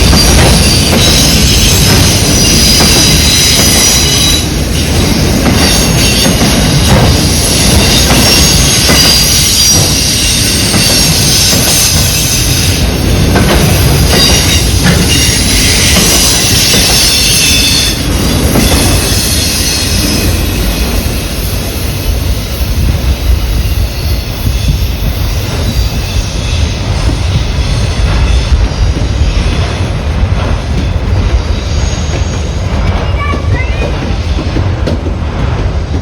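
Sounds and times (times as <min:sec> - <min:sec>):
wheel-flange squeal: 0:00.0 - 0:12.9, 0:13.6 - 0:22.8, 0:23.4 - 0:29.8, 0:30.8 - 0:34.2
freight train cars rumbling: 0:00.0 - 0:36.0.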